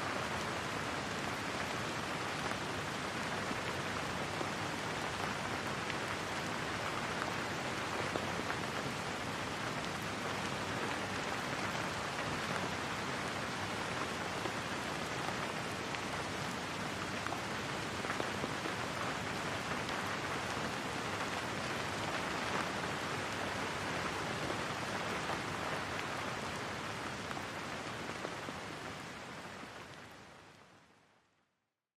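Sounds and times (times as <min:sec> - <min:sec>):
steady rain falling: 0:00.0 - 0:31.4.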